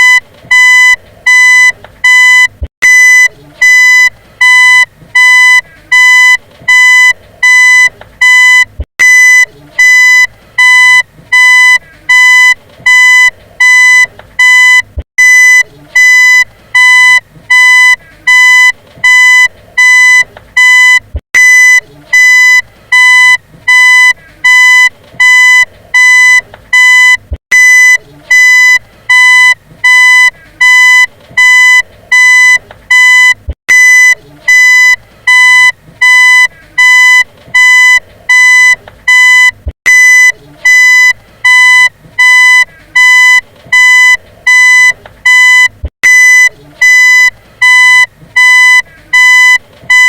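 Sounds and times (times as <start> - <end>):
reversing alarm beeping: 0.0 - 50.0.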